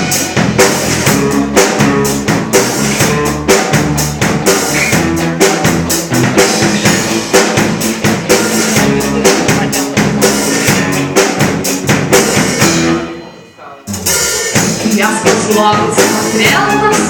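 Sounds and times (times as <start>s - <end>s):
drum kit beat: 0.0s - 17.0s
rock band playing: 0.0s - 17.0s.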